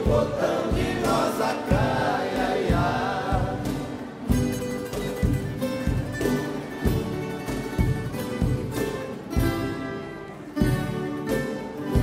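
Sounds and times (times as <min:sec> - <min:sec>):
folk guitars strumming chords: 0:00.0 - 0:12.0.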